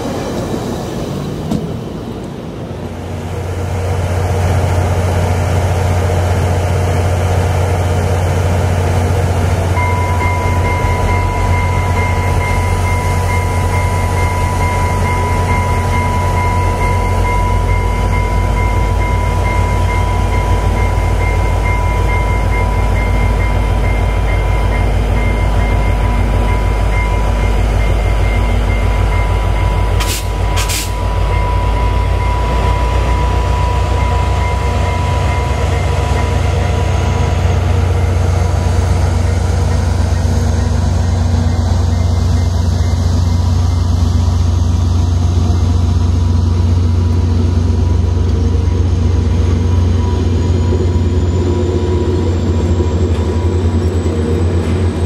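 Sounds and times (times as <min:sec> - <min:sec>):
passenger train passing: 0:00.0 - 0:55.0.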